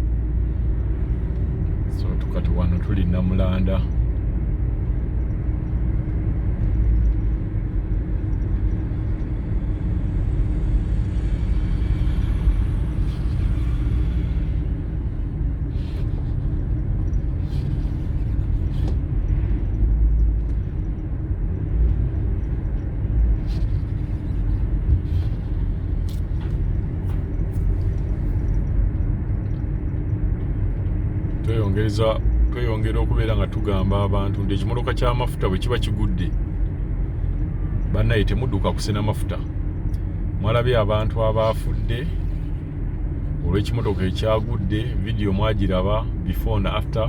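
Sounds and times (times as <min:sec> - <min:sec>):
vehicle rumbling along road: 0:00.0 - 0:47.0.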